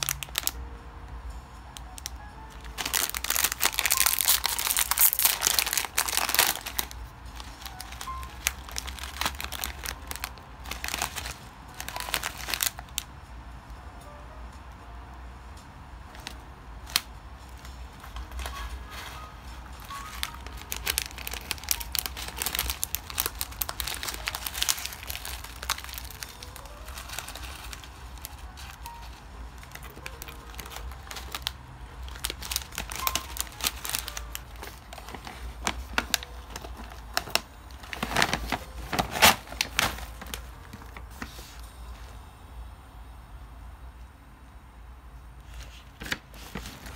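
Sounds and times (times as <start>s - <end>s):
plastic packaging crinkling: 0.0s - 0.6s, 1.8s - 13.1s, 16.1s - 41.8s, 45.4s - 46.9s.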